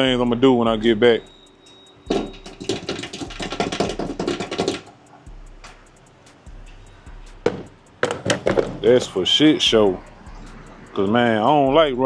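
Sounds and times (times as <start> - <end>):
background music with ticking beat: 0.0 - 12.0.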